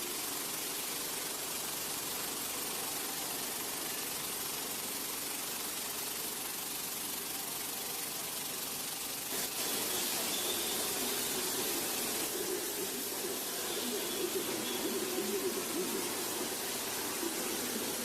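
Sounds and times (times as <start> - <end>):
machinery noise with hiss: 0.0 - 18.0.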